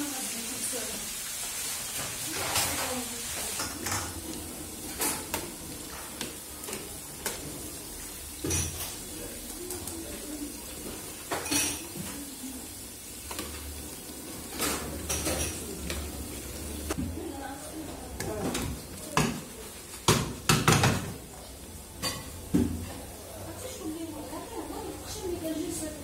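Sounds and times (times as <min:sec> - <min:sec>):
oil hissing from deep-frying: 0:00.0 - 0:26.0.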